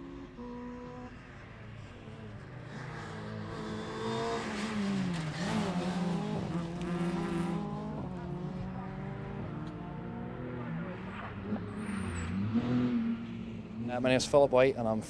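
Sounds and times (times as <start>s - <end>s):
rally car engine passing at speed: 0.0s - 15.0s.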